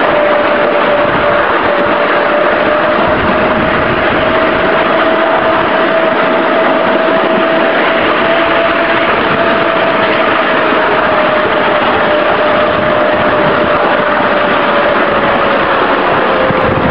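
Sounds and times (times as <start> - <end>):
electric locomotive whine: 0.0 - 16.9
rushing noise of moving train: 0.0 - 16.9.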